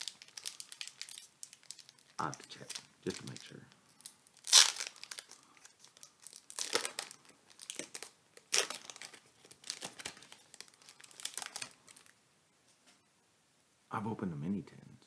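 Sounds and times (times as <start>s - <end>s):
foil wrapper crinkling and tearing: 0.0s - 12.2s.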